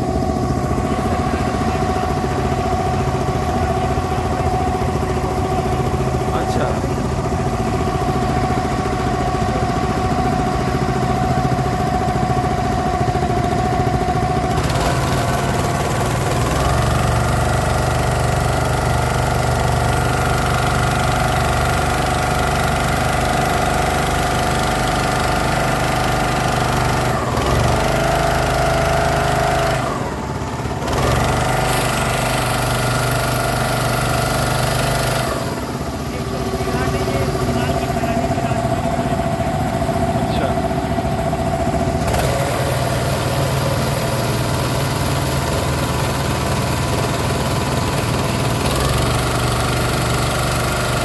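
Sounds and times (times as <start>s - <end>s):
motorboat engine running: 0.0s - 51.0s.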